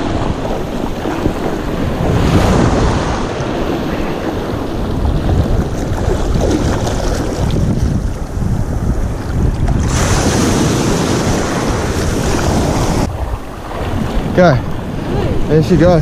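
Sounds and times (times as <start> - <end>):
surf breaking on shore: 0.0 - 16.0
wind rumbling on microphone: 0.0 - 16.0.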